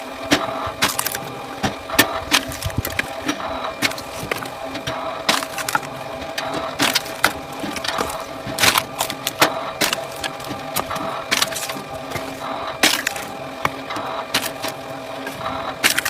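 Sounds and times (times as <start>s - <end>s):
wood-processing machine running: 0.0s - 16.0s
wood cracking and splintering: 0.3s - 16.0s.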